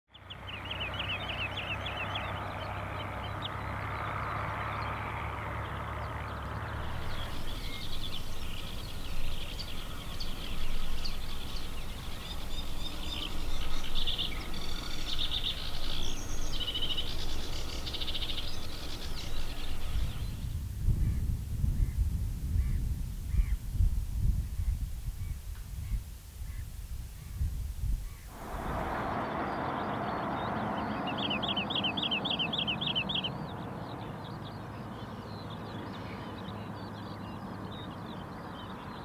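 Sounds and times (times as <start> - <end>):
birds chirping: 0.1 - 22.0, 28.0 - 39.0
high bird calls: 0.2 - 20.5, 28.1 - 39.0.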